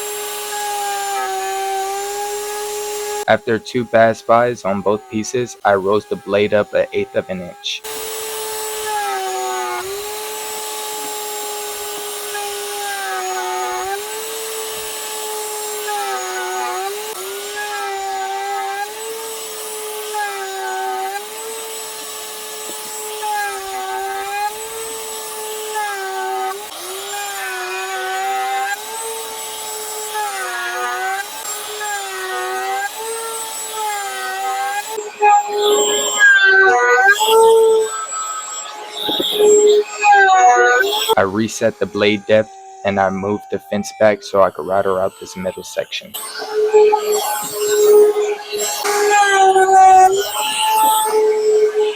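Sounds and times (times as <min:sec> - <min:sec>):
router motor whining: 0:00.0 - 0:51.9.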